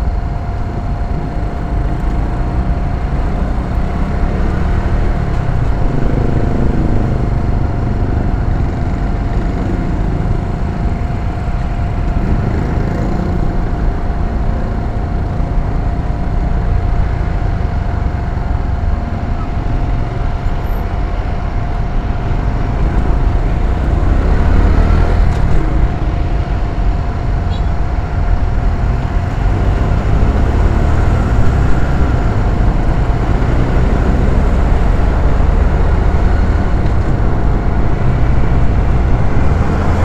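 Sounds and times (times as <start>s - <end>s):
motorcycle engine running: 0.0s - 40.0s
wind rumble on microphone: 0.0s - 40.0s.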